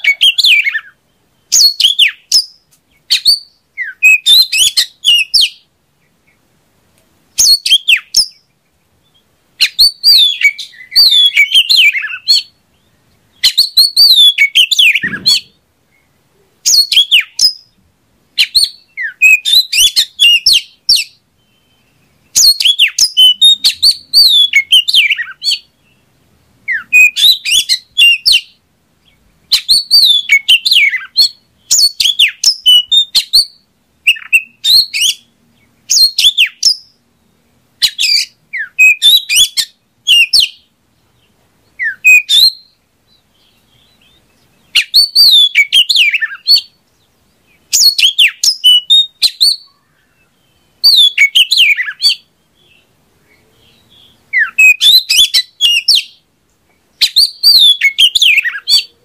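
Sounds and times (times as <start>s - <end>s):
bird singing whistled phrases: 0.0s - 5.6s, 7.4s - 8.4s, 9.0s - 17.8s, 18.4s - 26.0s, 26.7s - 28.6s, 29.5s - 35.3s, 35.9s - 40.6s, 41.8s - 46.8s, 47.7s - 56.2s, 57.0s - 59.0s.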